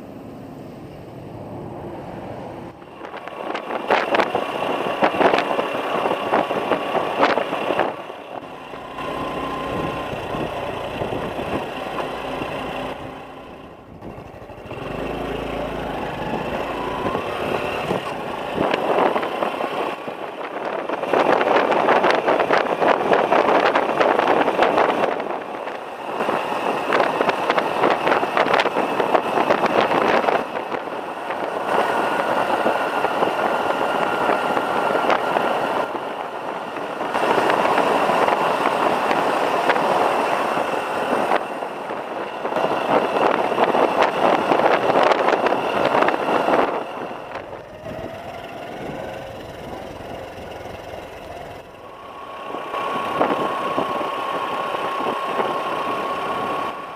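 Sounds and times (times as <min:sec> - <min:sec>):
wind and road noise: 0:00.0 - 0:56.9
motorcycle engine running: 0:02.7 - 0:56.9.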